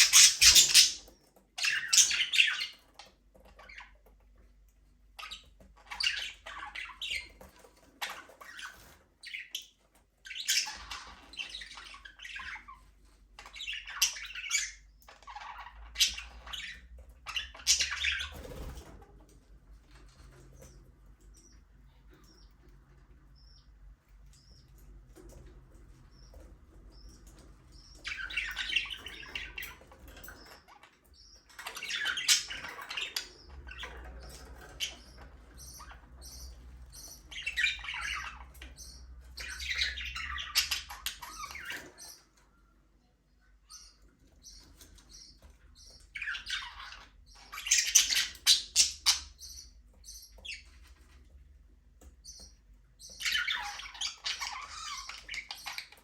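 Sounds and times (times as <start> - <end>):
budgerigars chirping and chattering: 0.0 - 42.8, 43.4 - 56.0.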